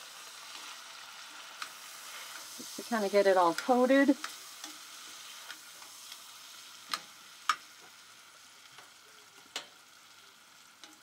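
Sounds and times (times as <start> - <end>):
meat and onions sizzling: 0.0 - 11.0.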